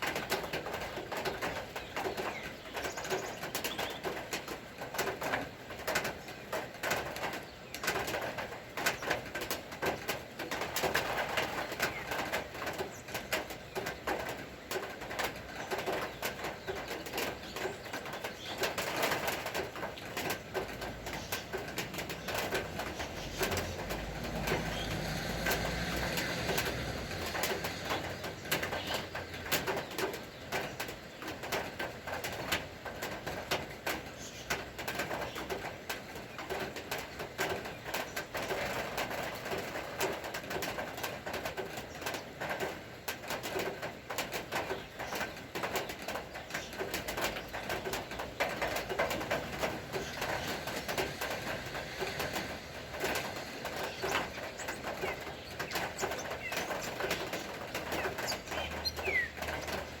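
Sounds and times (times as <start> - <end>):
rain patter and drips: 0.0 - 60.0.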